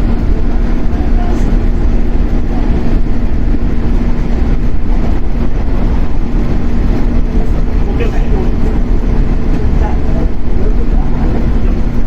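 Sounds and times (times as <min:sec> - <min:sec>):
traction motor hum: 0:00.0 - 0:12.0
train wheels rumbling on rail: 0:00.0 - 0:12.0.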